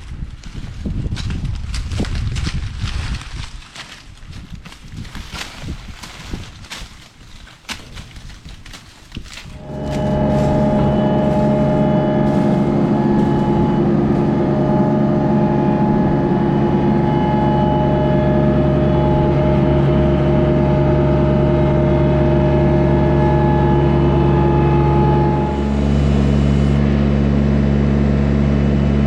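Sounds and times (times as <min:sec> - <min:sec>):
tractor engine running: 0:04.3 - 0:29.0.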